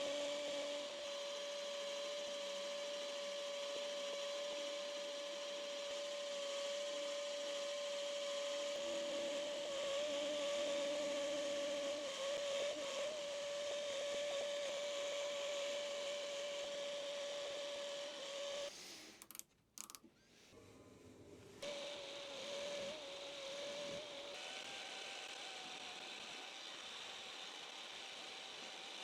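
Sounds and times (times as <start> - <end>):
metal lathe whine: 0.0 - 18.7, 21.6 - 29.0.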